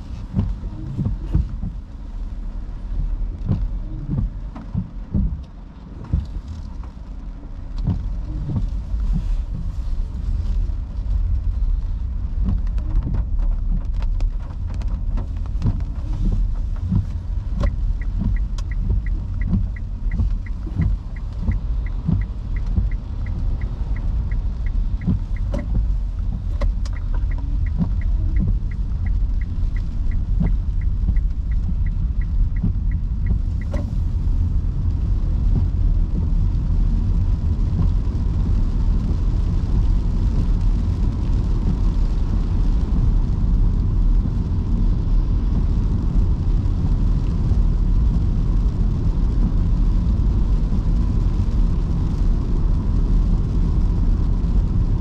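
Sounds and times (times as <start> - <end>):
tyres rumbling on wet road: 0.0 - 55.0.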